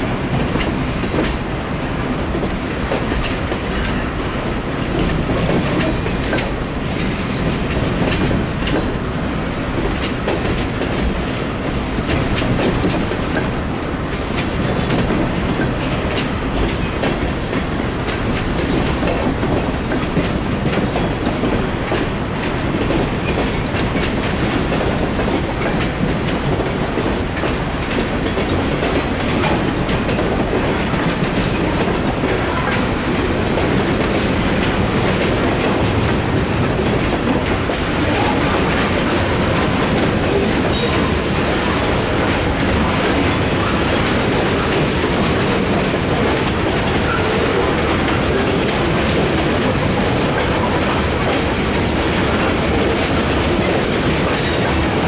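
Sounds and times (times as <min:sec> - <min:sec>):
train wheels rumbling on rail: 0:00.0 - 0:55.0
wheels clicking over rail joints: 0:09.7 - 0:55.0.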